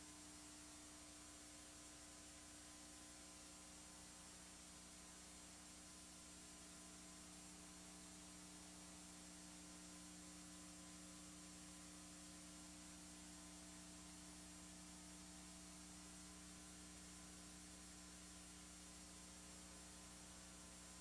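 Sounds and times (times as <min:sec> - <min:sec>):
faint steady hum with hiss: 0:00.0 - 0:21.0.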